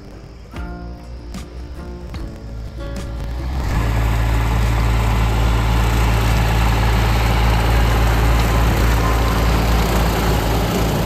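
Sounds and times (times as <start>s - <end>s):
diesel tractor engine running: 0.0s - 11.0s
rotary mower cutting weeds: 1.3s - 11.0s.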